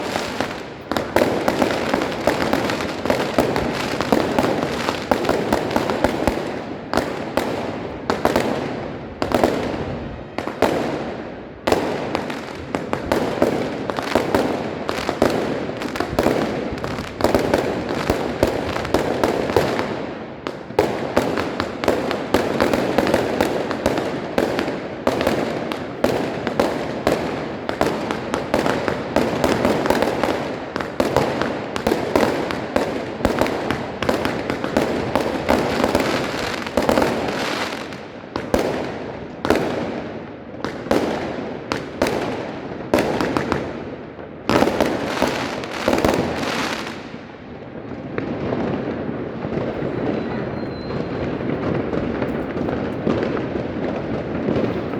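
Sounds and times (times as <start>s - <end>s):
fireworks banging: 0.0s - 54.9s.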